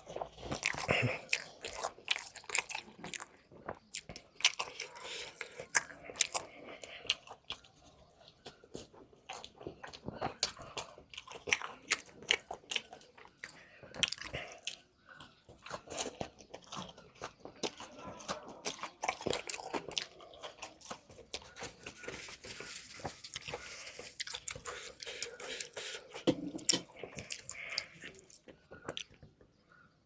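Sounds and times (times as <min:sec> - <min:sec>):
crunchy food chewing: 0:00.0 - 0:29.9.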